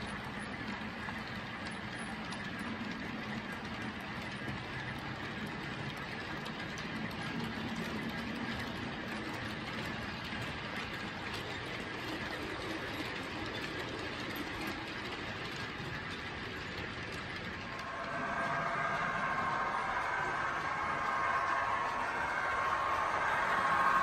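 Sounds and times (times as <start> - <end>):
model locomotive motor humming: 0.0 - 24.0
model train wheels rolling: 0.0 - 24.0.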